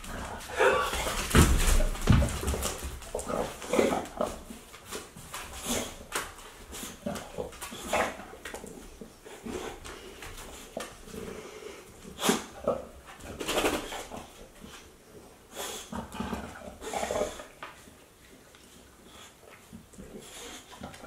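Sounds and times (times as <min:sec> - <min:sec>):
dog sniffing and snuffling: 0:00.0 - 0:21.0.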